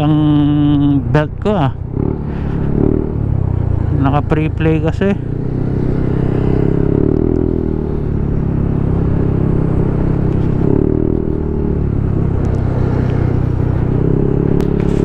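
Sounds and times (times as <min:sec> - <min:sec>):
motorcycle engine running: 0:00.0 - 0:15.0
steady rushing noise: 0:01.5 - 0:15.0.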